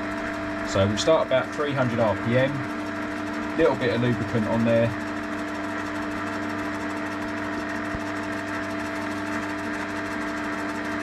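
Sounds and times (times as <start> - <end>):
metal lathe motor humming and whining: 0.0 - 11.0.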